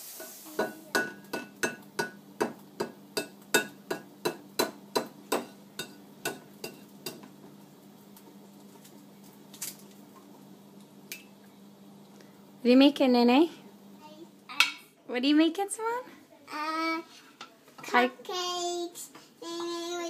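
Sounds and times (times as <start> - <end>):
faint steady hum: 0.5 - 20.0.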